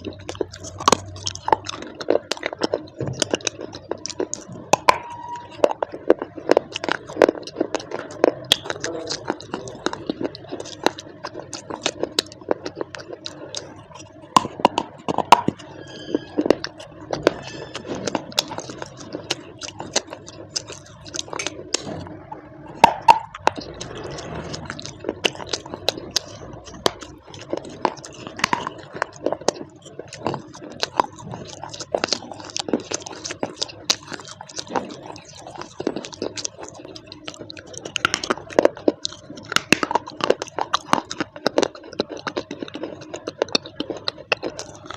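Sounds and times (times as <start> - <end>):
chewing and crunching: 0.0 - 44.9.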